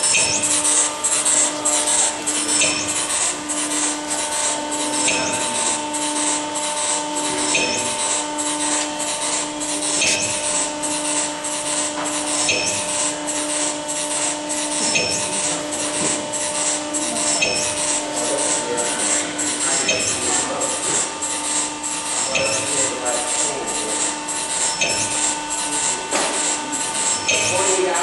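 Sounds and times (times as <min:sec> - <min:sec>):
hissing machine strokes: 0:00.0 - 0:28.0
machine hum: 0:00.0 - 0:28.0.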